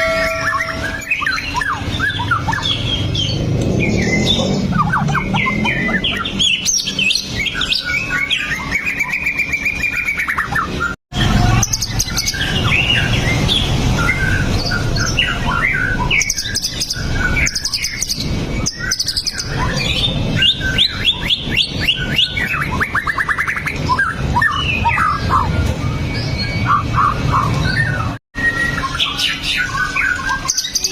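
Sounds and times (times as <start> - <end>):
songbird singing whistles and trills: 0.0 - 30.9.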